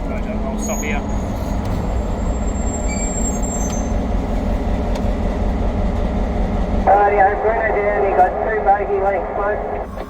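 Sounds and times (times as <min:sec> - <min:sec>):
diesel locomotive engine rumbling: 0:00.0 - 0:10.0.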